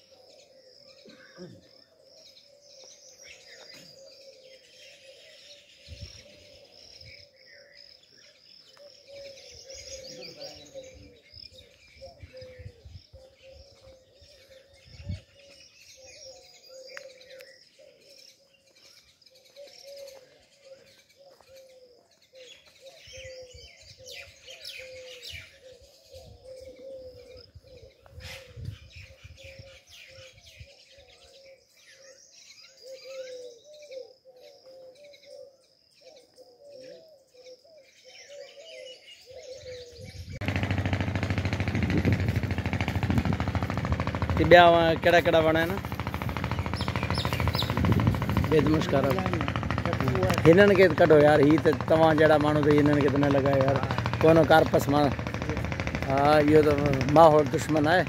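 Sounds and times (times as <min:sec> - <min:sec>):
birds chirping and calling: 0:00.0 - 0:58.0
low repeating bird call: 0:00.0 - 0:58.0.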